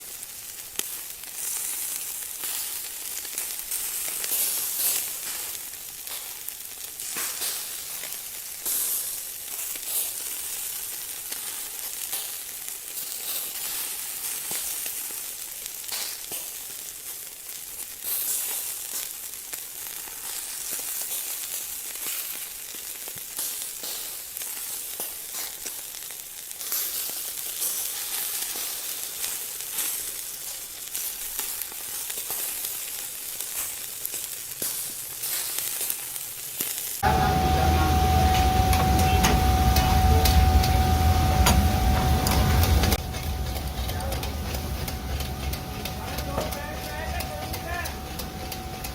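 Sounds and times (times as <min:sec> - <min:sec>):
food sizzling and crackling: 0:00.0 - 0:48.9.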